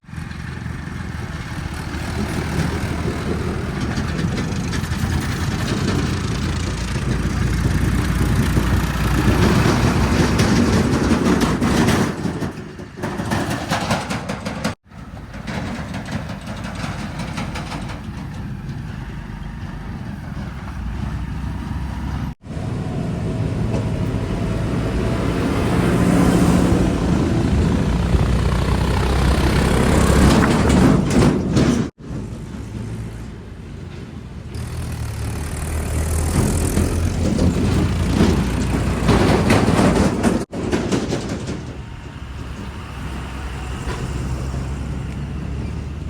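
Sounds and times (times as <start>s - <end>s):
heavy diesel engines running: 0.0s - 46.0s.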